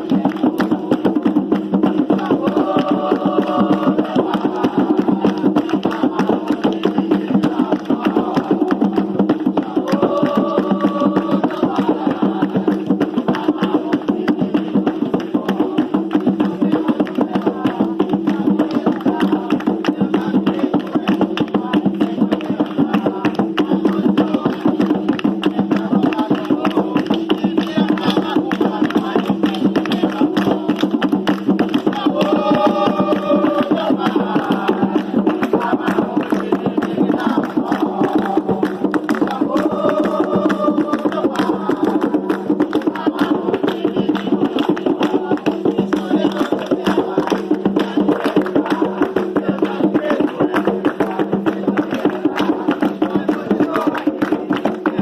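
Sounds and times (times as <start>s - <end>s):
fast percussion beat: 0.0s - 55.0s.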